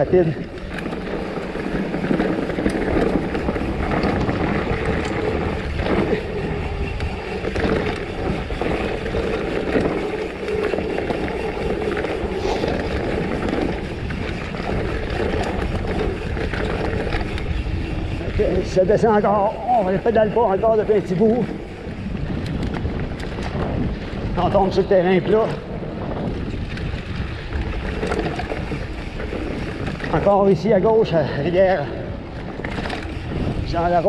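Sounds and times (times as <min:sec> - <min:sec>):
bike rattles and knocks: 0:00.0 - 0:34.0
tyres rolling over dirt and stones: 0:00.0 - 0:34.0
wind rushing over microphone: 0:00.0 - 0:34.0.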